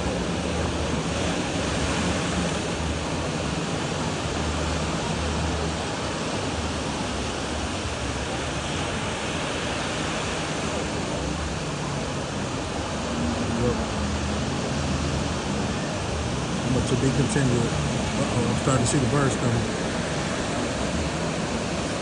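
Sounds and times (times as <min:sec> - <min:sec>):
ocean surf on beach: 0:00.0 - 0:22.0.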